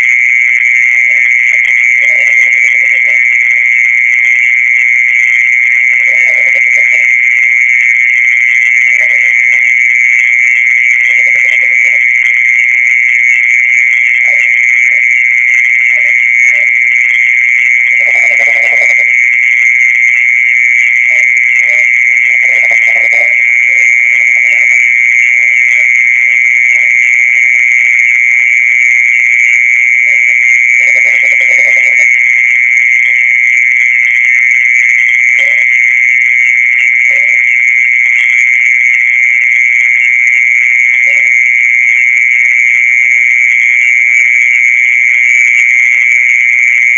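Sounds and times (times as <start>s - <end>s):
short low croaking calls: 0.0s - 42.5s
insect trill: 0.0s - 46.9s.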